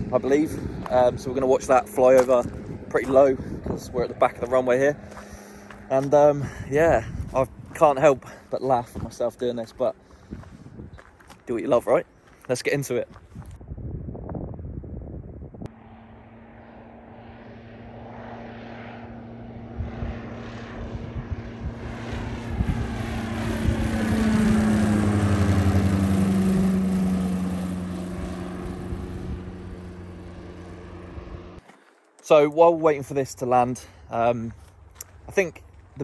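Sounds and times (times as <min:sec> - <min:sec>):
low-flying aircraft passing: 0:00.0 - 0:36.0.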